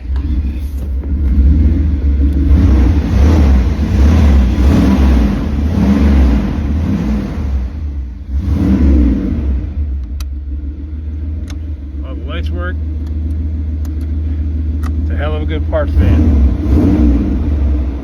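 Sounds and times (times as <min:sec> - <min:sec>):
van engine rumbling and revving: 0:00.0 - 0:18.0.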